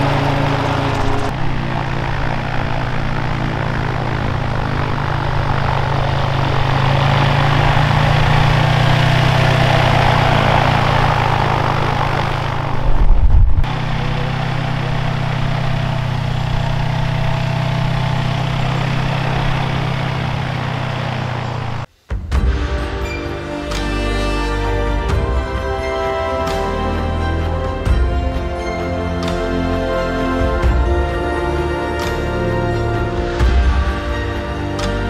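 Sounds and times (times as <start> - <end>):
gyroplane engine and propeller: 0.0 - 21.9, 23.6 - 35.0.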